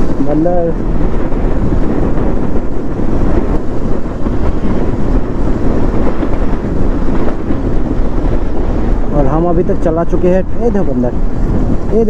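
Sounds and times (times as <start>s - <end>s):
road and engine noise: 0.0s - 12.0s
wind buffeting microphone: 0.0s - 12.0s.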